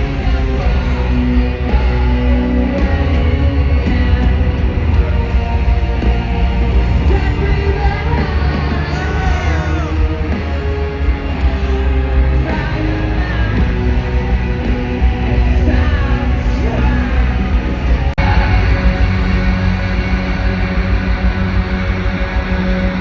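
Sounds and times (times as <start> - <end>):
person singing: 0.0 - 19.1
booming bass: 0.0 - 23.0
live rock band playing: 0.0 - 23.0.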